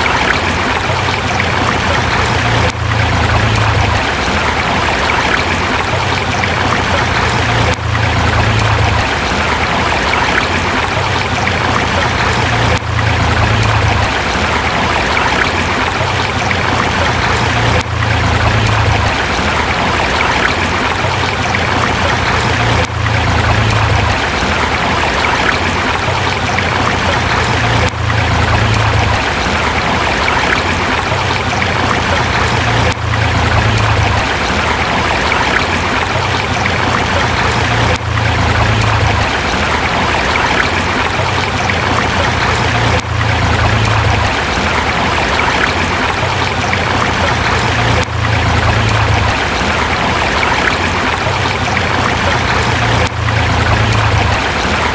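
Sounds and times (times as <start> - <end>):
river flowing over rocks: 0.0 - 54.9.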